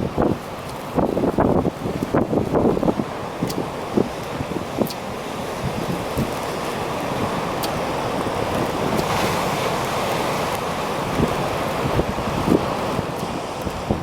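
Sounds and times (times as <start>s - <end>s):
storm surf breaking: 0.0s - 14.0s
wind buffeting microphone: 0.0s - 14.0s.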